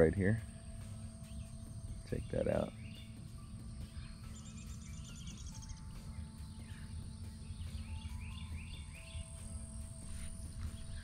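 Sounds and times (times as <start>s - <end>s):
birds chirping: 0.0s - 11.0s
fast high bird trill: 0.0s - 11.0s
low rumble of wind: 0.0s - 11.0s.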